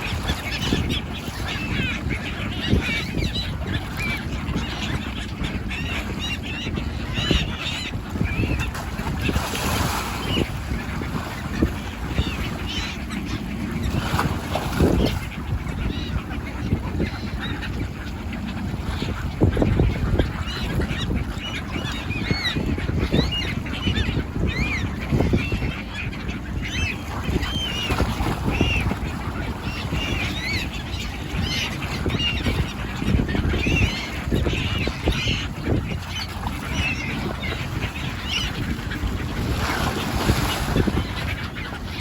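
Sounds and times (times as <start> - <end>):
flock of seabirds calling: 0.0 - 42.0.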